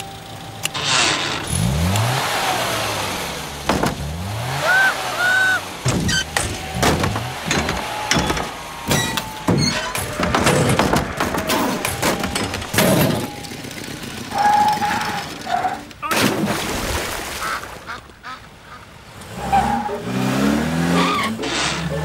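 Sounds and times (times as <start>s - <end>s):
traffic sound effects: 0.0s - 22.0s.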